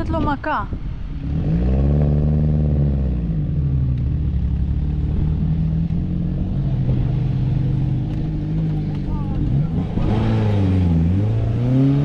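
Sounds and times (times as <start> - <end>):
off-road vehicle engine: 0.0 - 12.0.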